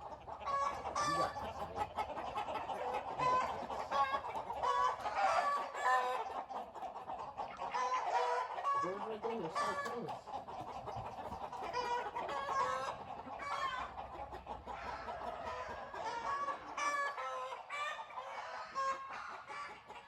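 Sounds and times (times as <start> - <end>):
chickens clucking and squawking: 0.0 - 20.0.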